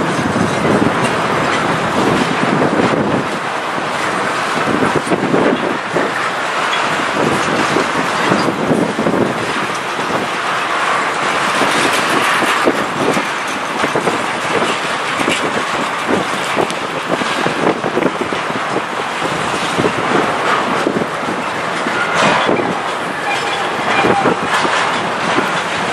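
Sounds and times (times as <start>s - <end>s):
train cars clanking: 0.0s - 25.9s
train wheels rumbling on rail: 0.0s - 25.9s
wind buffeting microphone: 0.0s - 25.9s.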